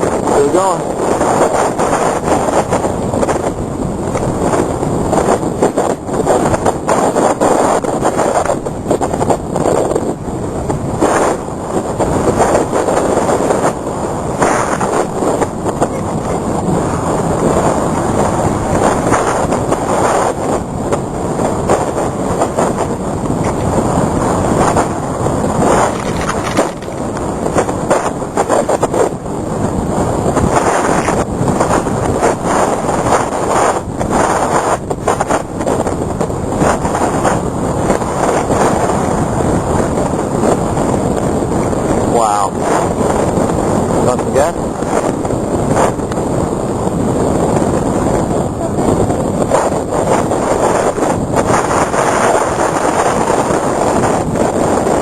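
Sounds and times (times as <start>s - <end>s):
strong wind gusting: 0.0s - 55.0s.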